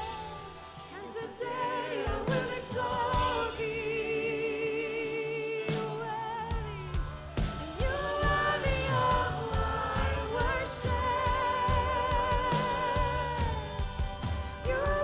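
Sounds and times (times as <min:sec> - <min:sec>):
drums: 0:00.0 - 0:15.0
live gospel band: 0:00.0 - 0:15.0
people singing: 0:00.0 - 0:15.0.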